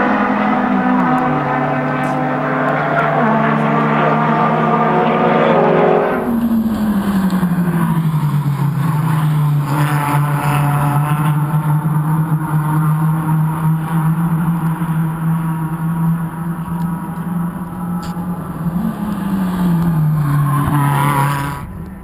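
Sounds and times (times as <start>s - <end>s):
race car engines running: 0.0s - 22.0s.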